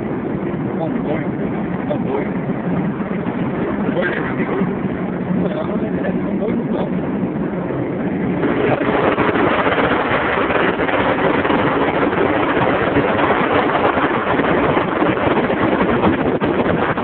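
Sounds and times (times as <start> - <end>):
highway traffic rushing: 0.0 - 17.0
wind rushing: 0.0 - 17.0.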